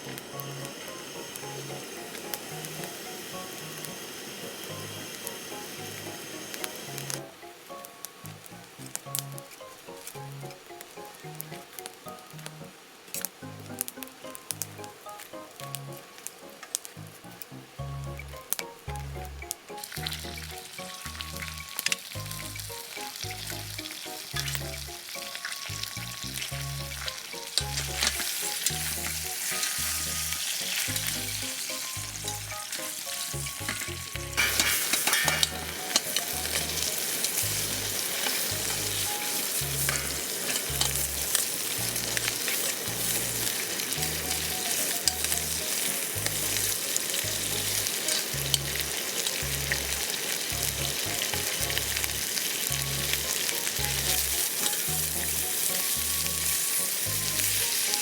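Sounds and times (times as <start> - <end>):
food sizzling and crackling: 0.0 - 58.0
background music with steady beat: 4.7 - 58.0.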